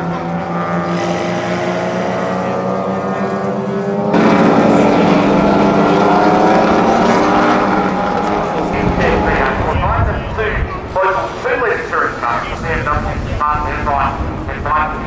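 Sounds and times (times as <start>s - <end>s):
racing car engines at high revs: 0.0s - 12.1s.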